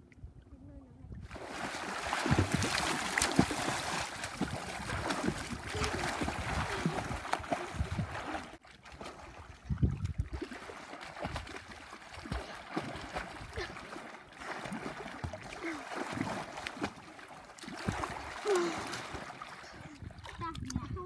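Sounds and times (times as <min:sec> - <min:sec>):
water splashing: 0:01.2 - 0:21.0.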